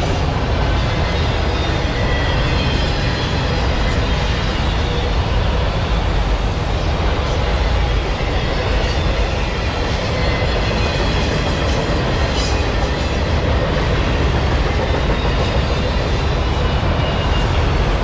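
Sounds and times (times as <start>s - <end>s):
steel train wheels on rails: 0.0s - 18.0s.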